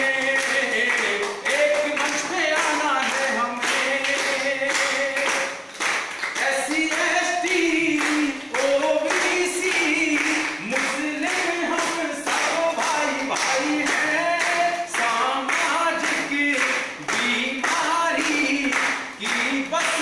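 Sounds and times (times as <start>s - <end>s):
men singing together: 0.0s - 5.6s, 6.4s - 20.0s
group clapping a steady beat: 0.0s - 20.0s.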